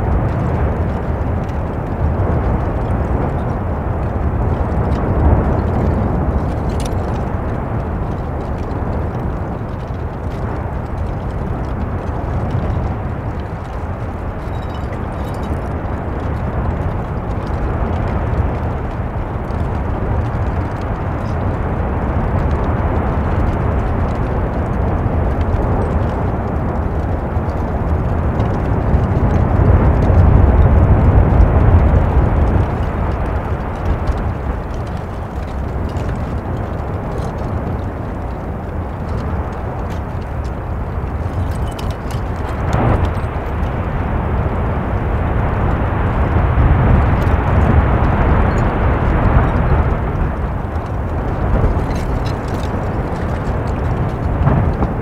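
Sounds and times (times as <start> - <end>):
deep rumble of churning lava: 0.0 - 55.0.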